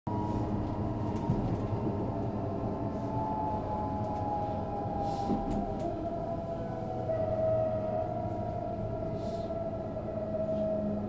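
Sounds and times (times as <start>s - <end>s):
train wheels rumbling: 0.1s - 11.0s.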